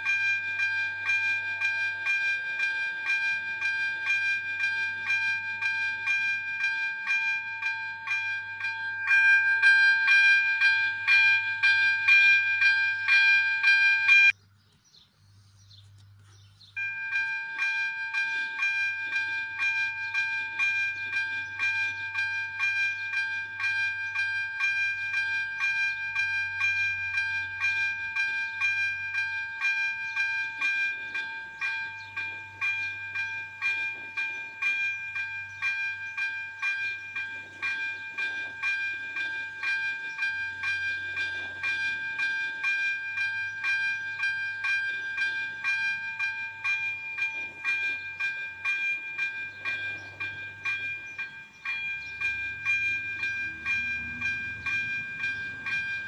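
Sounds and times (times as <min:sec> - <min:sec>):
electric warning bell ringing: 0:00.0 - 0:14.4, 0:16.7 - 0:56.0.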